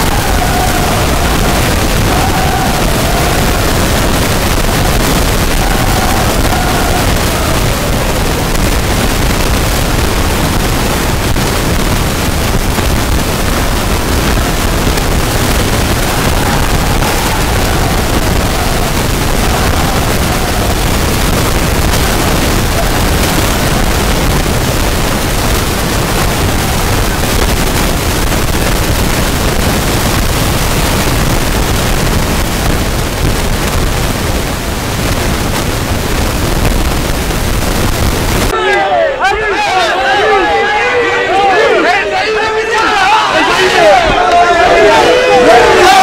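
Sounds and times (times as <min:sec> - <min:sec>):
players shouting and chanting: 0:00.0 - 0:31.3, 0:38.5 - 0:46.0.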